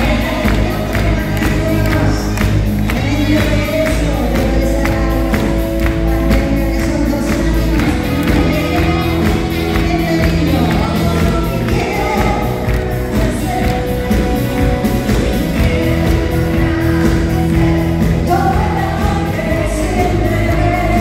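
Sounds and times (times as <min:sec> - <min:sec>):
band playing: 0:00.0 - 0:21.0
drums beating: 0:00.0 - 0:21.0
woman singing pop song: 0:00.0 - 0:21.0.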